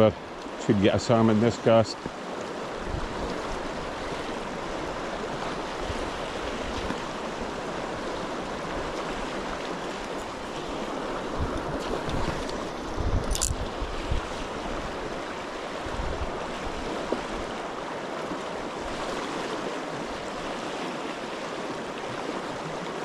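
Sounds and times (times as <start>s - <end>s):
river current rushing: 0.0s - 23.0s.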